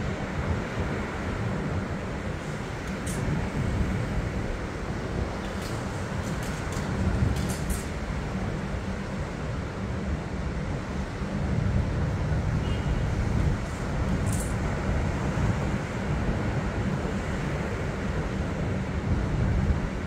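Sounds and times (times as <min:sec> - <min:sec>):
wind blowing on microphone: 0:00.0 - 0:20.0.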